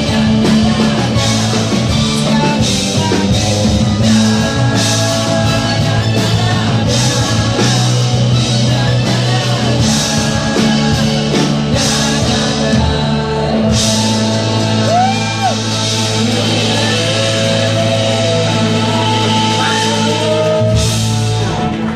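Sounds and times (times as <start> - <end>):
person singing: 0.0 - 21.7
acoustic guitar: 0.0 - 21.9
bass guitar: 0.0 - 21.9
drums: 0.0 - 21.9
electric guitar: 0.0 - 21.9.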